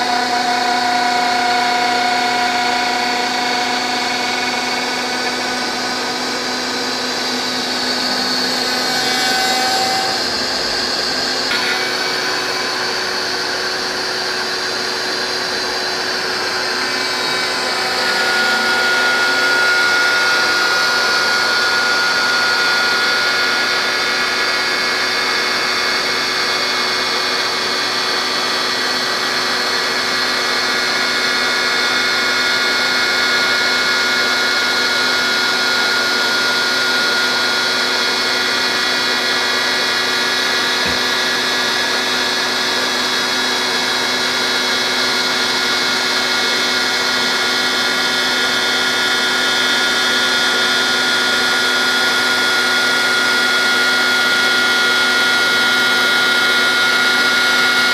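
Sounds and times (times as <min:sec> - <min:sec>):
router spindle whine: 0:00.0 - 0:57.9.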